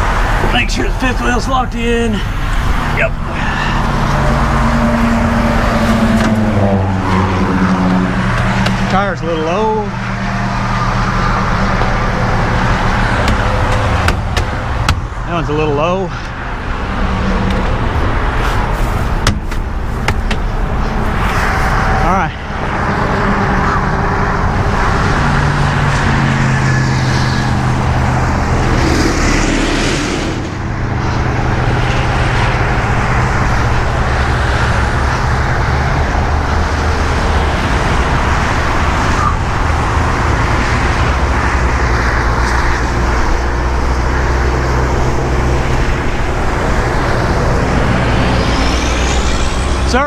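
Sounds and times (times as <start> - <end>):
highway traffic rushing: 0.0 - 50.0
vehicles passing by: 0.0 - 50.0.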